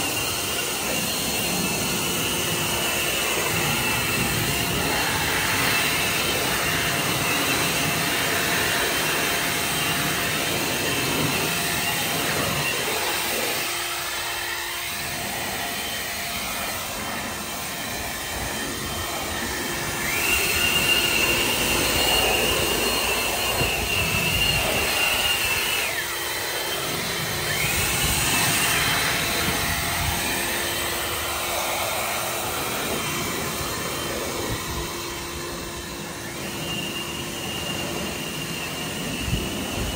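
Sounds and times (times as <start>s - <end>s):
leaf blower high whine: 0.0s - 39.9s
leaf blowers rushing air: 0.0s - 39.9s.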